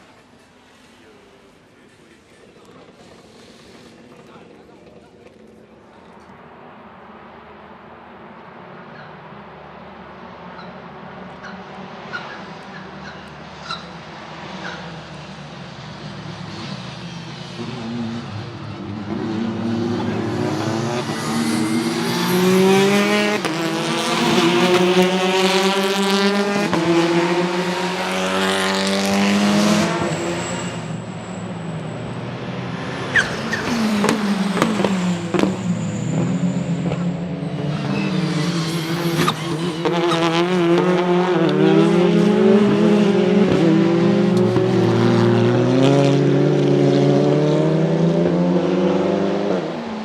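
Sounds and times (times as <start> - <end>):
car engine accelerating: 2.2 - 50.0.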